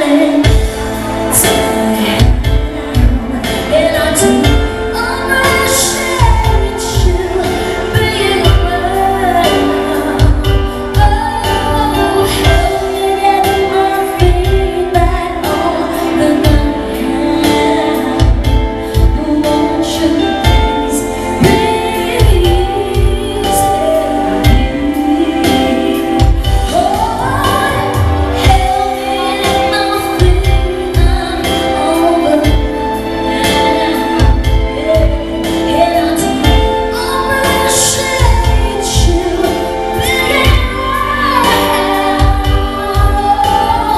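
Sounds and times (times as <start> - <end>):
amplified backing music with beat: 0.0 - 43.9
woman singing into microphone: 0.0 - 43.9.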